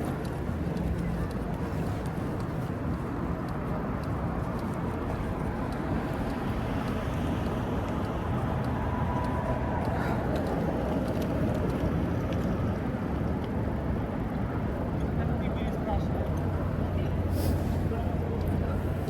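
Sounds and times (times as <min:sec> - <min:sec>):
street traffic passing: 0:00.0 - 0:19.0.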